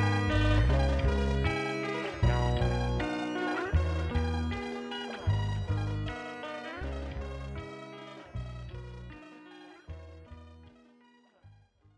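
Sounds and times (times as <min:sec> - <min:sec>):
slowed-down electronic music: 0:00.0 - 0:11.6.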